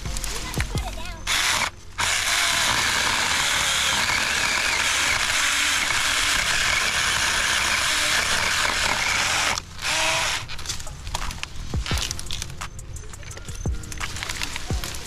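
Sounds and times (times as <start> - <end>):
battery chainsaw cutting branches: 0.0 - 12.7.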